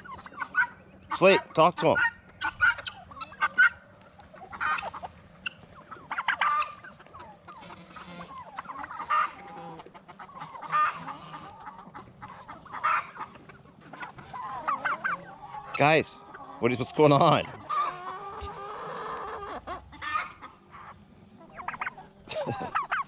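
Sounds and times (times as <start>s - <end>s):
chickens clucking and squawking: 0.0s - 23.0s.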